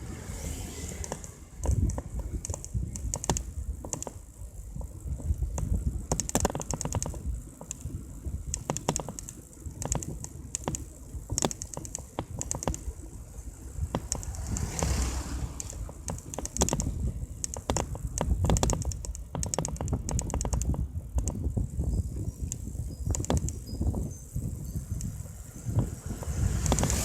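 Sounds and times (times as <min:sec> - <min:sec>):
bike clicking and rattling: 0:00.0 - 0:27.0.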